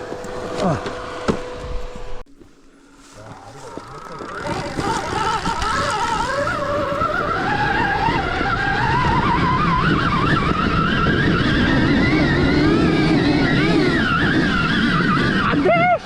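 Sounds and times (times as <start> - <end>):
electric motor whining: 0.0 - 15.8.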